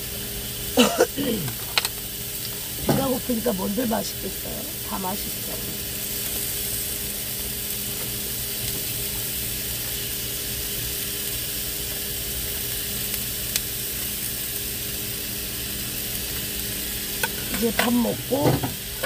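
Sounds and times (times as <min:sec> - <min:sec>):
food sizzling in a pan: 0:00.0 - 0:19.0
steady low hum: 0:00.0 - 0:19.0.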